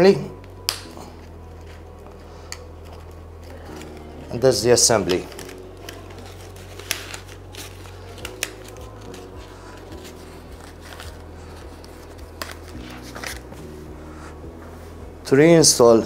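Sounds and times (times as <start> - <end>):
fabric rustling: 1.2 - 15.3.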